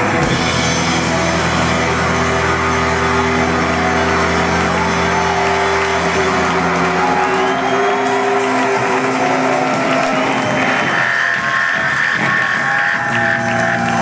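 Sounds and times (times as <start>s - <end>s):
rock band droning chord: 0.0s - 14.0s.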